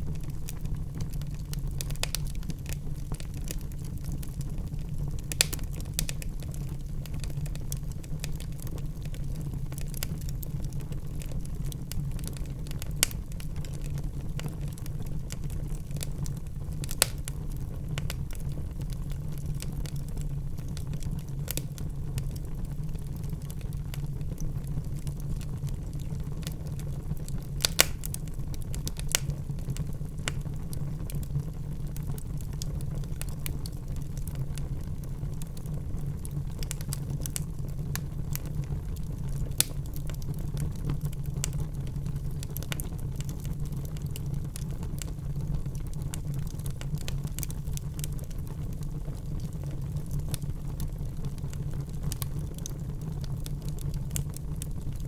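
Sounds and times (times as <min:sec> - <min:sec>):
wood fire crackling in fireplace: 0:00.0 - 0:55.0.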